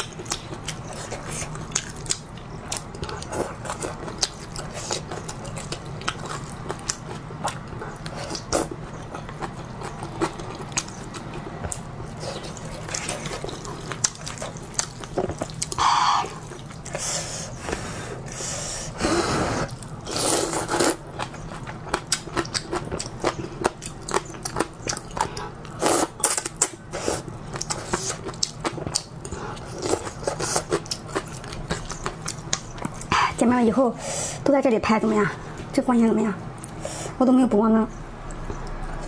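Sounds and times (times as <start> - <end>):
person chewing noodles: 0.0 - 33.4, 36.4 - 37.2.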